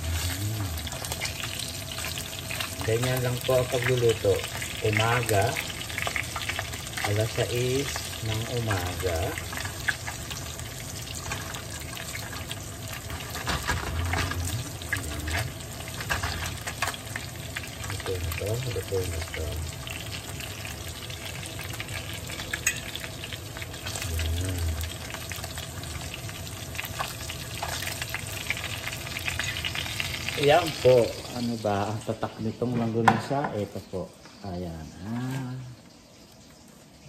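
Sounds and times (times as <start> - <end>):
sausages sizzling in a frying pan: 0.0 - 37.0.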